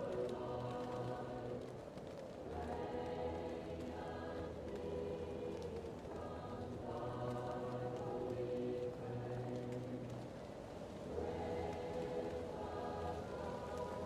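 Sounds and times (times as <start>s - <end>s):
muffled choir singing: 0.0s - 14.0s
wood fire crackling: 0.0s - 14.0s.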